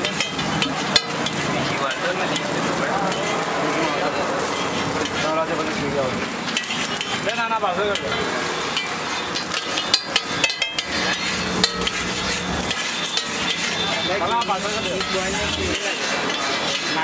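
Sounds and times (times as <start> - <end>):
faint sizzle: 0.0 - 17.0
metal spatula scraping griddle: 0.0 - 17.0
stall background noise: 0.0 - 17.0.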